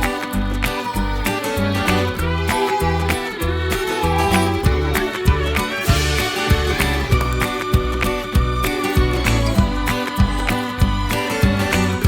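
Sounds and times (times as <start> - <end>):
music with plucked strings and bass: 0.0 - 12.0.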